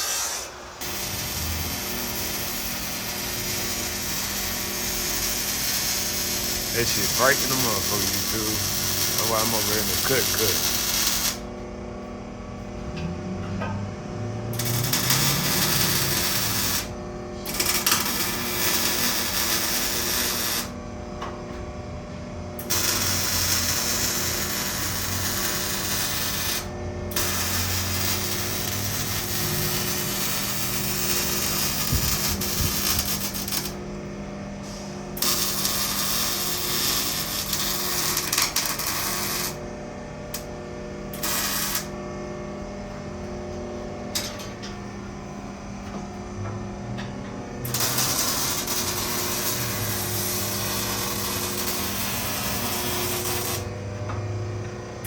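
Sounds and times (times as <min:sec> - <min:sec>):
arc welder welding: 0:00.0 - 0:45.4, 0:47.4 - 0:55.0
steady hum: 0:00.0 - 0:55.0.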